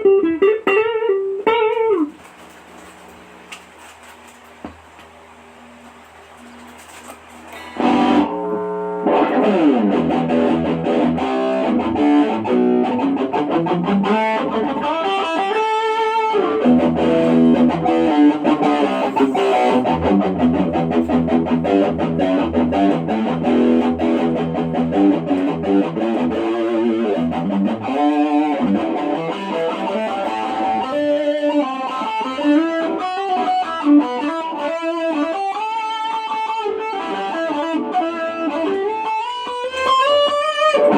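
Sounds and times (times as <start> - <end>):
electric guitar single-note lines: 0.0 - 2.9, 7.5 - 40.9.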